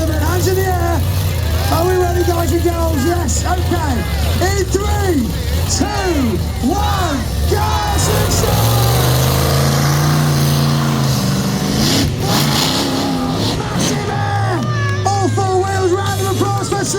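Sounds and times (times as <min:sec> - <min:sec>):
truck engine revving hard: 0:00.0 - 0:16.9.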